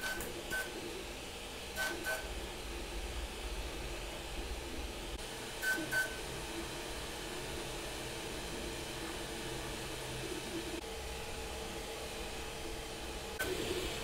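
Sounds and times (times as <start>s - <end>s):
three d printer fan and motion hum: 0.0s - 14.0s.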